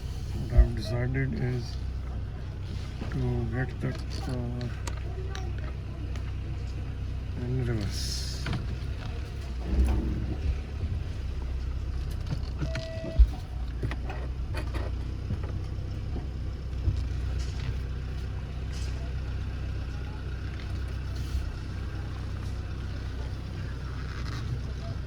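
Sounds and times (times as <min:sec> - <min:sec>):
car engine low rumble: 0:00.0 - 0:25.0.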